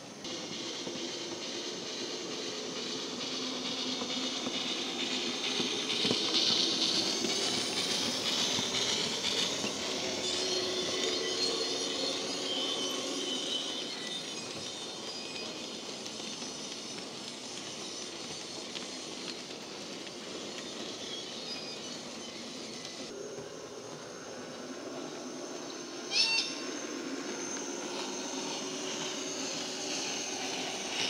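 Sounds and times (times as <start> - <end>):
model train wagons running on track: 0.0 - 31.0
steam locomotive sound from small speaker: 0.0 - 31.0.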